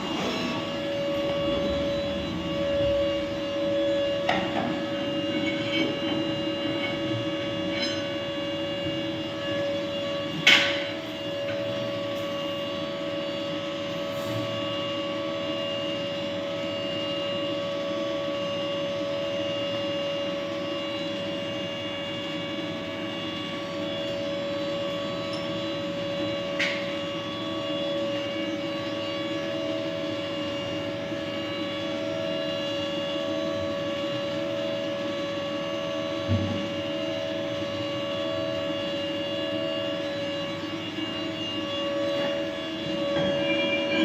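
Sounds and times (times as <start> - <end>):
lathe machine whine: 0.0 - 44.0.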